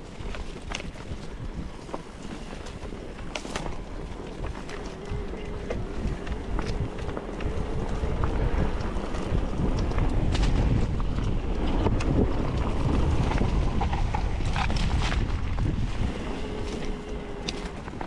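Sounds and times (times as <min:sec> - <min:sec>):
bike clicks: 0:00.0 - 0:18.0
wind buffeting microphone: 0:00.0 - 0:18.0.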